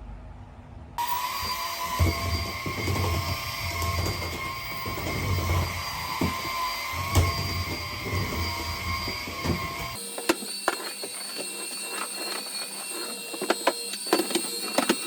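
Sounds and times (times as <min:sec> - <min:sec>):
vacuum cleaner motor whine: 0:01.0 - 0:15.0.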